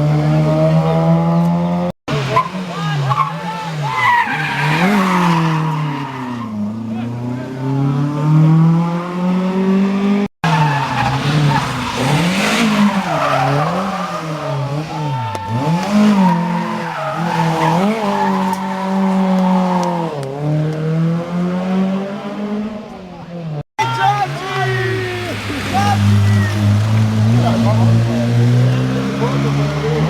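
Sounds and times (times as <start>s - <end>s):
rally car engine revving hard: 0.0s - 23.0s, 25.1s - 30.0s.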